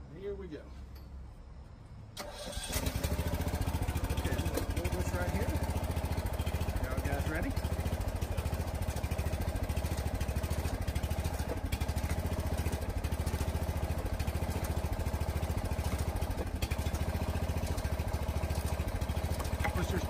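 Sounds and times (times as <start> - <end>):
hydraulic pump engine running: 2.2 - 20.0.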